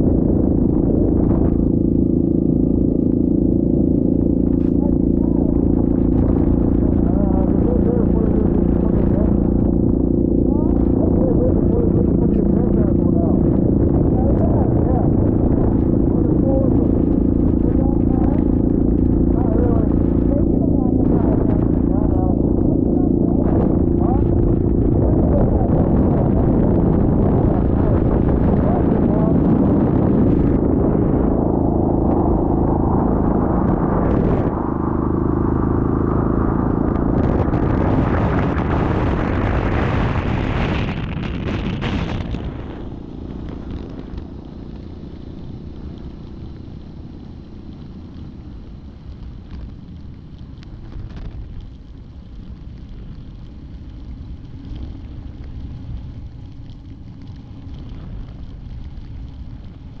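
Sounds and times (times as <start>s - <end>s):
atv engine running: 0.0s - 53.5s.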